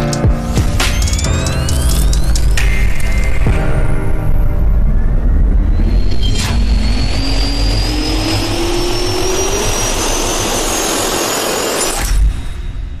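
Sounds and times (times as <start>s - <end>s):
jet engine spooling up: 0.5s - 13.0s.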